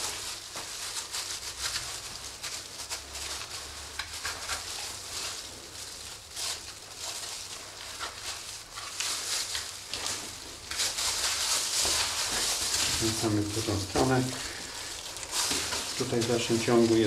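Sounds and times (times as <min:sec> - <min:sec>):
gloved hands rustling: 0:00.0 - 0:17.0
steady hiss and low hum: 0:00.0 - 0:17.0.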